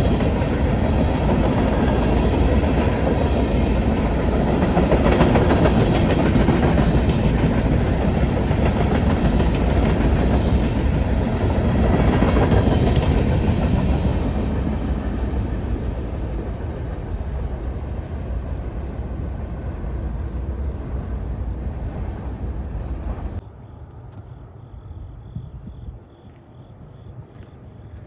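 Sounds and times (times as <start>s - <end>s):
passing train rumble: 0.0s - 26.1s.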